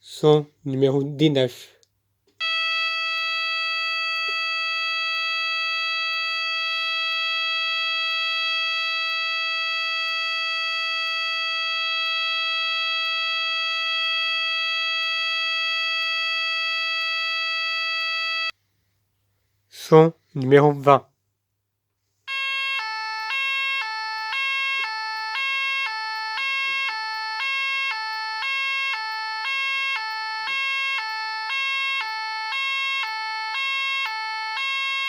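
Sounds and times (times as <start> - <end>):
fire alarm steady tone: 2.4 - 18.6, 22.3 - 35.0.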